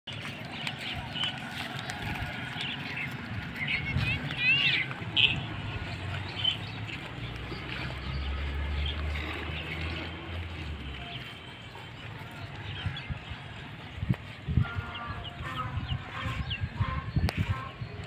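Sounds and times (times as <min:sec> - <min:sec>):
small birds chirping: 0:00.1 - 0:14.0, 0:14.6 - 0:18.0.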